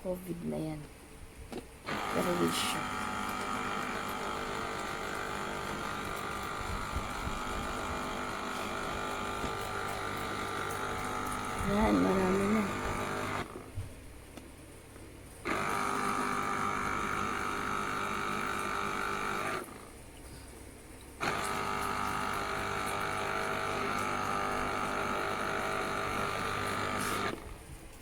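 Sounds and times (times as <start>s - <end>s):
electric juicer motor whirring: 1.9s - 13.8s, 15.4s - 20.0s, 21.2s - 27.7s.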